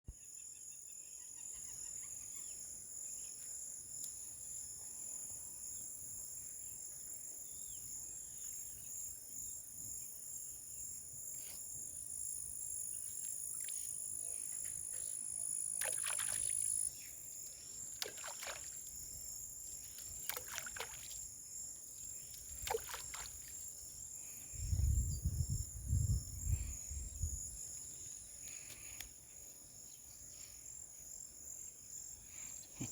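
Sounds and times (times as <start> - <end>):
insect chorus: 0.1 - 32.9.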